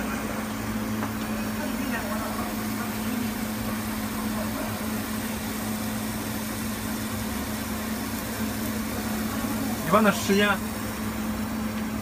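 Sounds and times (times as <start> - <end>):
fan noise: 0.0 - 12.0
laser machine electrical hum: 0.0 - 12.0.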